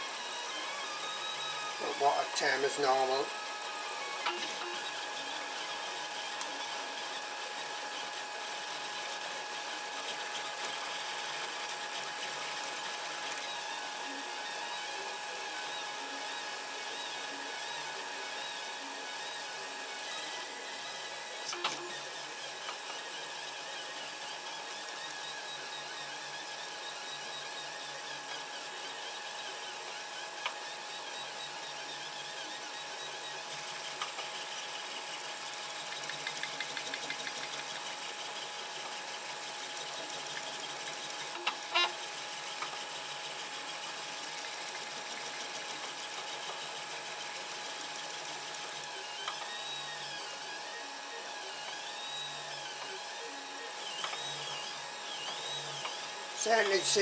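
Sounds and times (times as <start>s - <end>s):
stepper motors whining: 0.0s - 57.0s.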